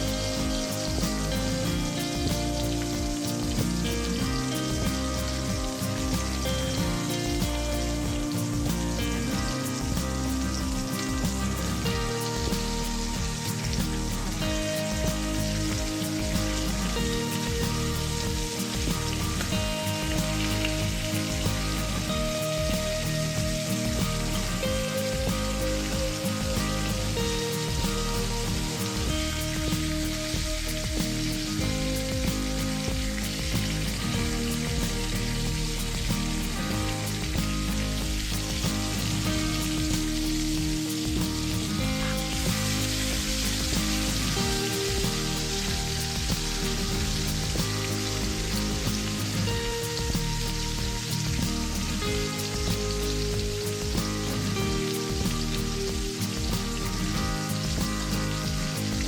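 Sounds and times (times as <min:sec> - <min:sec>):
food sizzling in a pan: 0:00.0 - 0:59.0
instrumental background music: 0:00.0 - 0:59.0.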